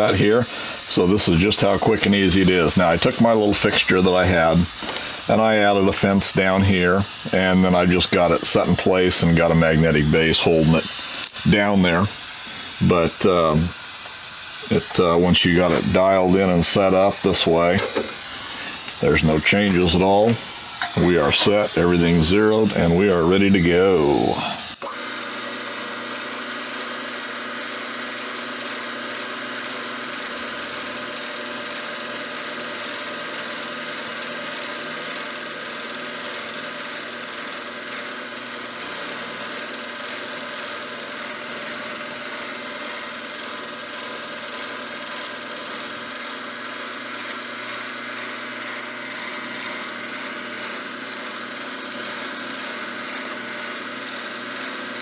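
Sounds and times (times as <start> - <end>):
end mill cutting metal: 0.0 - 55.0
milling machine running: 0.0 - 55.0.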